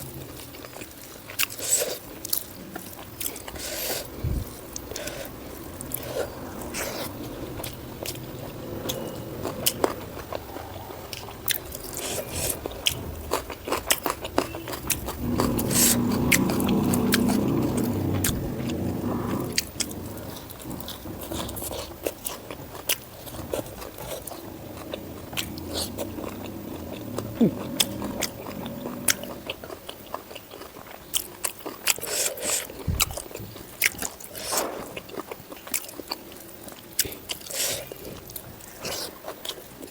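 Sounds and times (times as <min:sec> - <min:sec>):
close chewing: 0:00.0 - 0:39.9.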